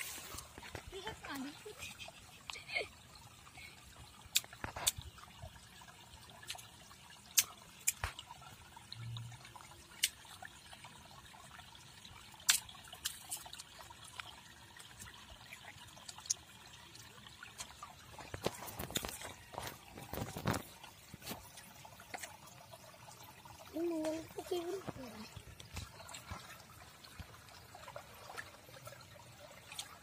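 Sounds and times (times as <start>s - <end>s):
water trickling: 0.0s - 30.0s.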